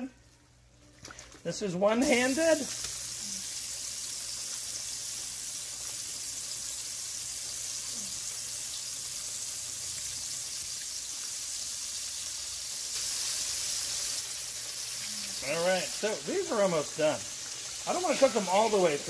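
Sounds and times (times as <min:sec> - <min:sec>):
pork chops sizzling in oil: 0:01.4 - 0:19.0.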